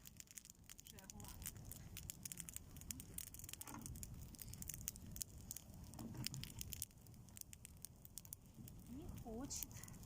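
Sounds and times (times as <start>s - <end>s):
bonfire crackling and popping: 0.0s - 10.0s.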